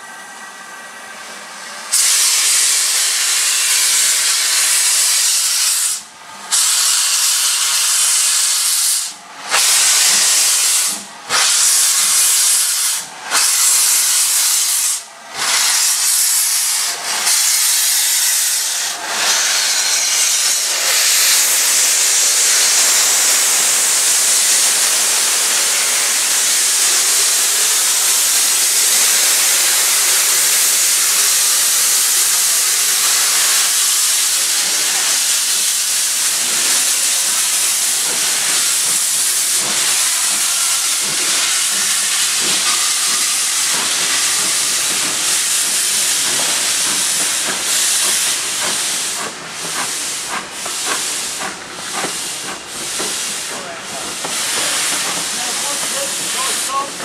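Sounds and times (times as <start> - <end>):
steam hissing: 1.1 - 57.0.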